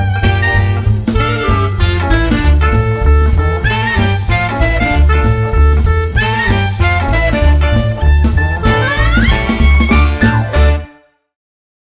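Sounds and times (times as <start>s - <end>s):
music with bouncing bass beat: 0.0s - 10.9s.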